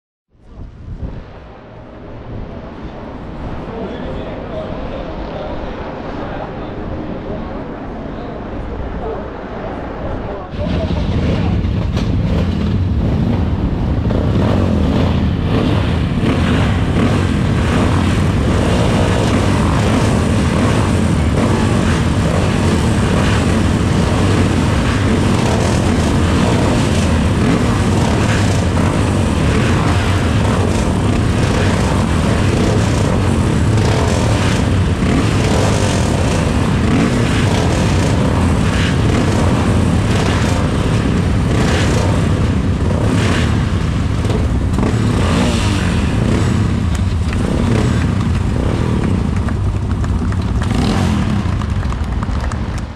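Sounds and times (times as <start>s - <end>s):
racing motorcycles droning: 0.9s - 52.9s.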